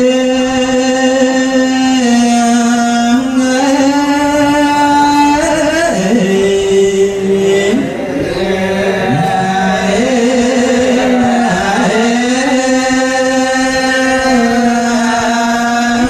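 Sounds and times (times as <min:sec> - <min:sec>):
person chanting a slow melody: 0:00.0 - 0:16.0.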